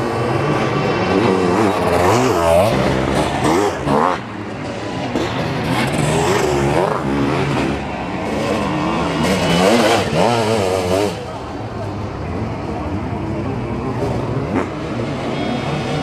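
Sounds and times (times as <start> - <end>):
motorcycle engines revving hard: 0.0 - 16.0.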